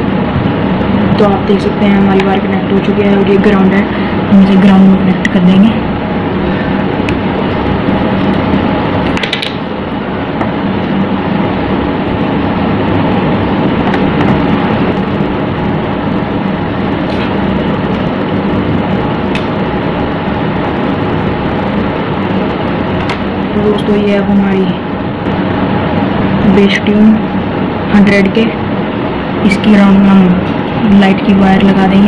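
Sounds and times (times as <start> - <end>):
loud background hum: 0.0 - 32.0.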